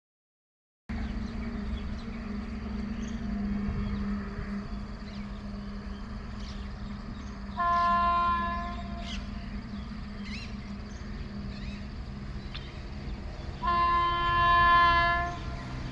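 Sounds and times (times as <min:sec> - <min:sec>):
birds chirping: 0:00.9 - 0:15.9
low hum and rumble: 0:00.9 - 0:15.9
train horn: 0:00.9 - 0:15.9.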